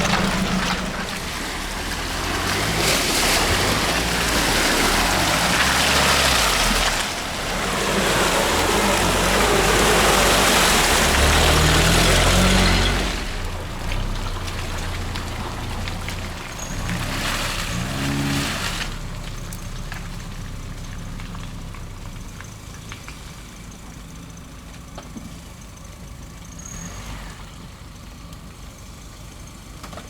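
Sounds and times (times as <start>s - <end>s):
off-road engine revving: 0.0s - 25.3s, 26.2s - 28.4s
splashing through mud and water: 0.0s - 29.9s.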